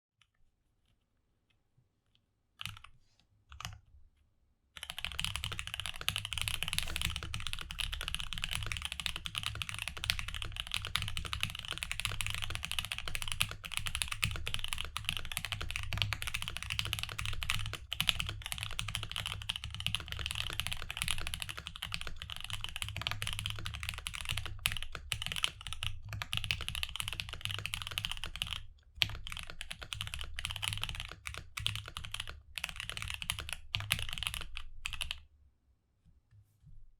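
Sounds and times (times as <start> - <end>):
fast typing on mechanical keyboard: 2.6 - 2.9, 4.8 - 35.2.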